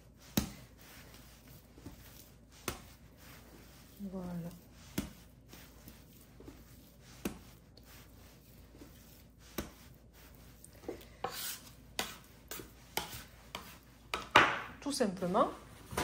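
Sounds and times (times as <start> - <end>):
hands slapping dough: 0.0 - 14.8.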